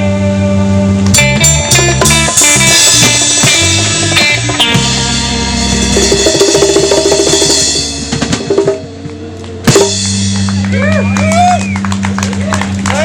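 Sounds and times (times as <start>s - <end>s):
live band playing: 0.0s - 13.0s
drums rolling: 1.1s - 13.0s.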